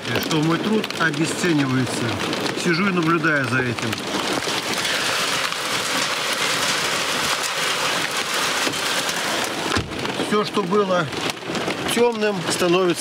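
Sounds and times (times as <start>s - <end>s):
heavy rain and hail pelting: 0.0s - 13.0s.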